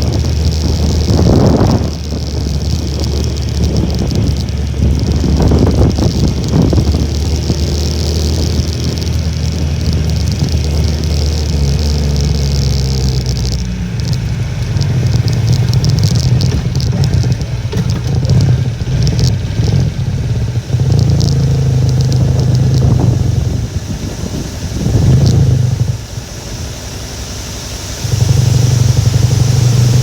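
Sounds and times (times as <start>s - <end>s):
small motorcycle engine running: 0.0s - 30.0s
wind buffeting microphone: 0.0s - 30.0s.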